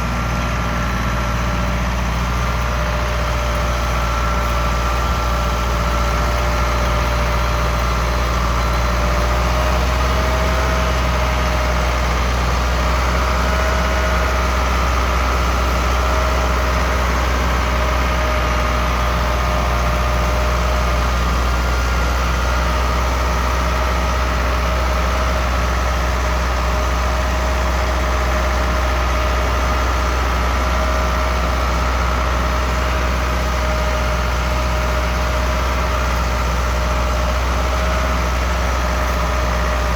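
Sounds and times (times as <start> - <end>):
tractor diesel engine rumble: 0.0 - 39.9.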